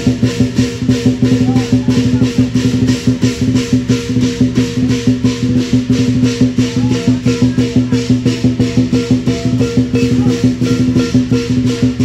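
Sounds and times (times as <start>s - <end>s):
clashing percussion beat: 0.0s - 12.0s.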